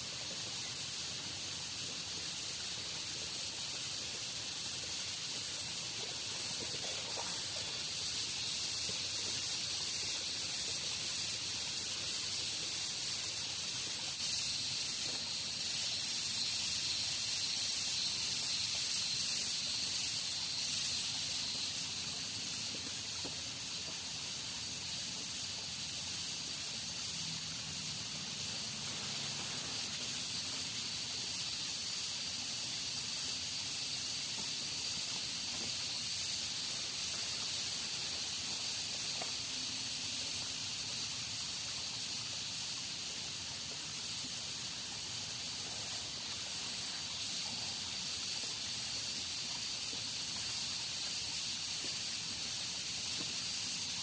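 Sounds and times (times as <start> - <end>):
rainforest ambience hiss: 0.0 - 54.0.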